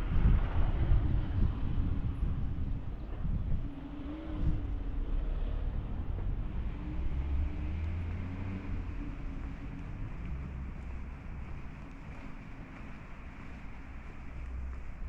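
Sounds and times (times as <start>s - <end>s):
faint engine hum: 0.0s - 15.0s
wind buffeting microphone: 0.0s - 15.0s.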